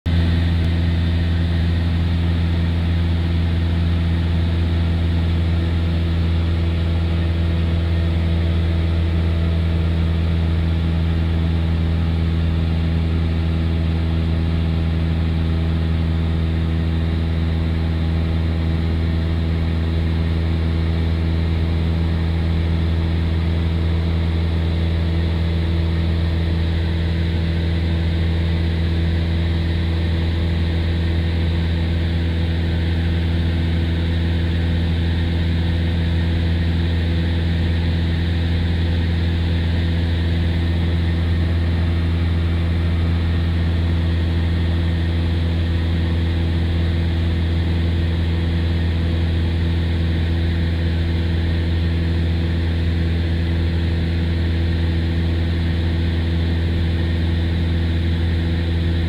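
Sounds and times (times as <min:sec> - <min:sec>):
propeller airplane engine drone: 0:00.1 - 0:59.0.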